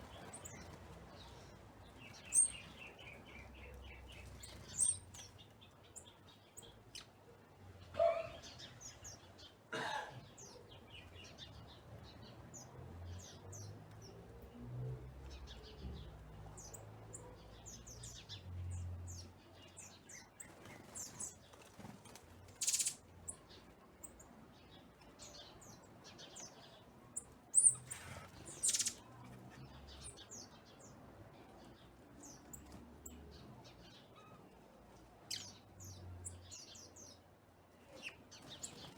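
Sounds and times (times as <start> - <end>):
songbirds chirping and calling: 0.0 - 38.9.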